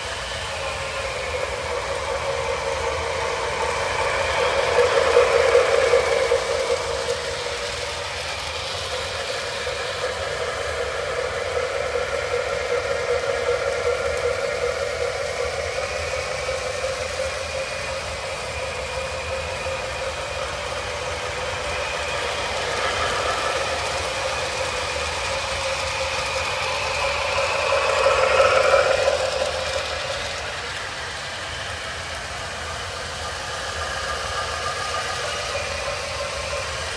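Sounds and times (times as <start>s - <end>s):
model train motors whirring: 0.0s - 36.9s.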